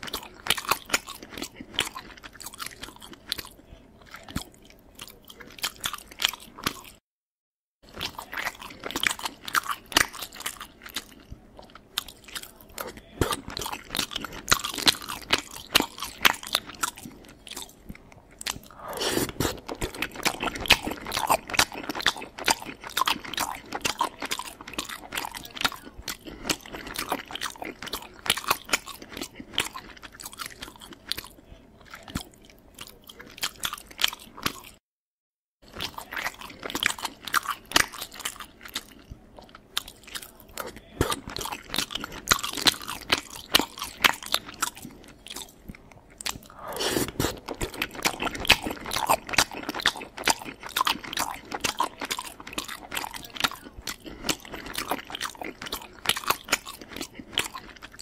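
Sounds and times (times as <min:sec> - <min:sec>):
wet chewing and crunching: 0:00.0 - 0:07.0, 0:07.8 - 0:34.8, 0:35.6 - 0:58.0.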